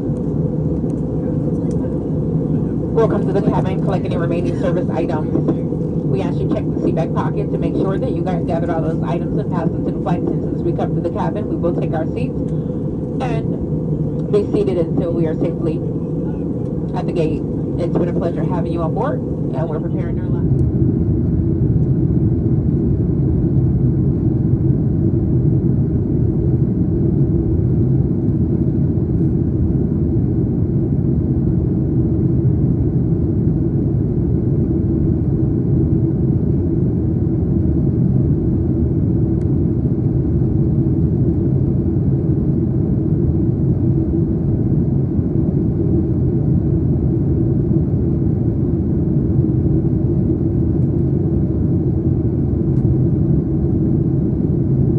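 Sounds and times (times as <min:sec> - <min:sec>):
faint hum: 0:00.0 - 0:54.9
jet engine and airflow rumble: 0:00.0 - 0:54.9.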